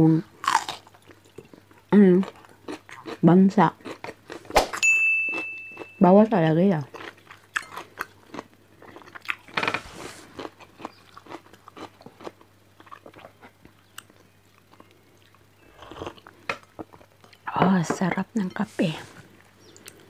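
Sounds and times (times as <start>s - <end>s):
person chewing: 0.4s - 6.0s, 6.9s - 17.5s, 19.2s - 20.0s.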